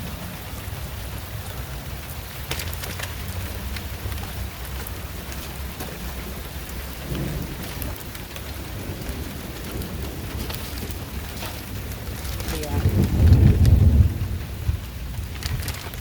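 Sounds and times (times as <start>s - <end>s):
low thunder rumble: 0.0s - 16.0s
steady rain falling: 0.0s - 16.0s.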